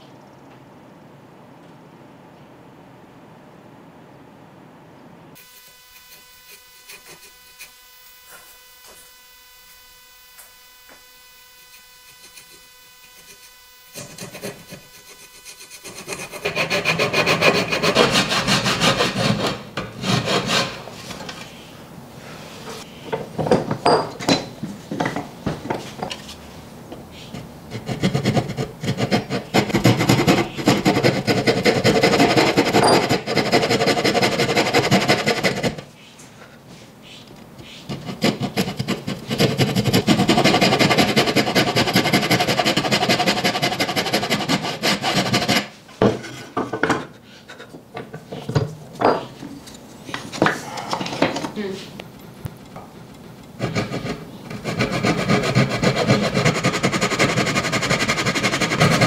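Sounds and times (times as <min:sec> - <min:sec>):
tool scraping against wood: 0:05.4 - 0:21.7, 0:22.3 - 0:59.0.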